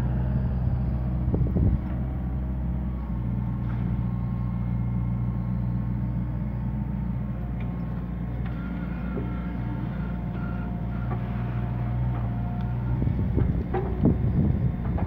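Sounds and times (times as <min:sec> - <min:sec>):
diesel excavator engine running: 0:00.0 - 0:15.0
hydraulic whine: 0:00.0 - 0:15.0.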